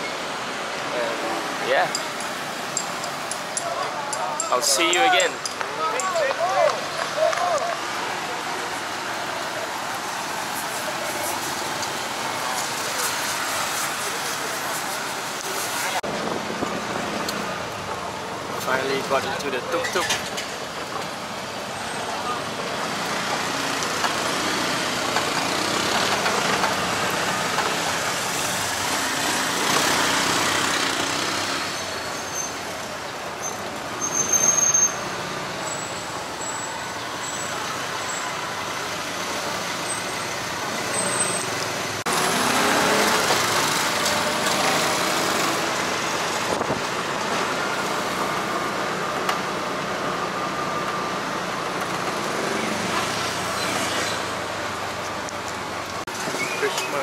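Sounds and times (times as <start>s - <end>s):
passing traffic: 0.0s - 57.0s
rickshaw engine rumble: 0.0s - 57.0s.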